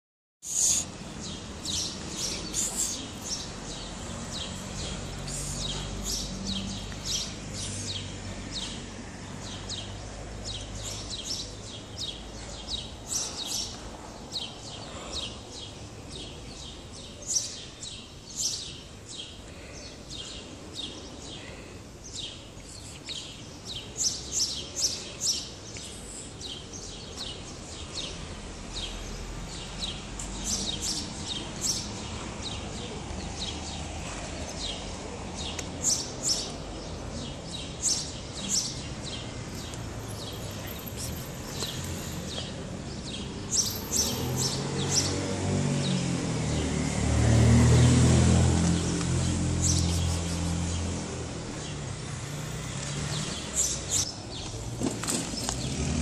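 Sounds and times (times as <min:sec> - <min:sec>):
small birds chirping: 0:00.4 - 0:56.0.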